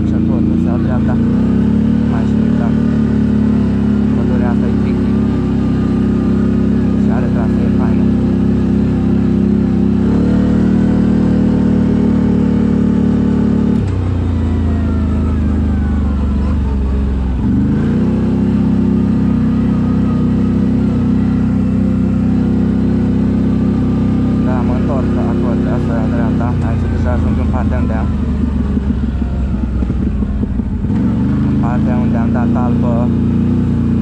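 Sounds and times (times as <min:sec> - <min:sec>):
loud atv engine running: 0:00.0 - 0:34.0.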